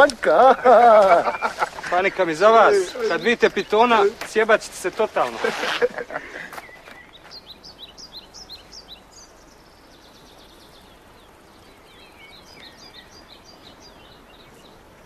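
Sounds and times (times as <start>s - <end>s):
birds chirping: 0.0s - 15.0s
faint outdoor hiss: 0.0s - 15.0s.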